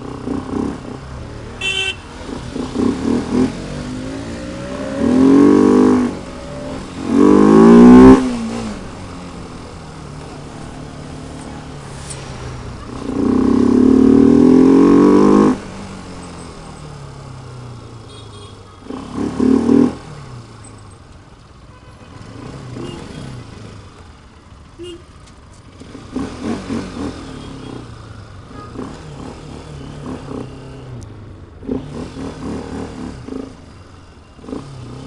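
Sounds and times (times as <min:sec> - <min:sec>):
motorcycle engine revving: 0:00.0 - 0:17.7, 0:18.8 - 0:20.6, 0:25.7 - 0:31.0, 0:31.6 - 0:35.0.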